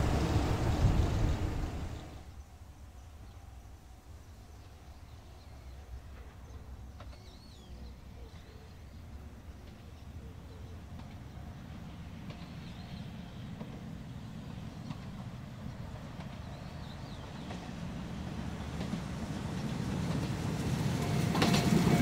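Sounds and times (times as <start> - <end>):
train approaching rumble: 0.0 - 22.0.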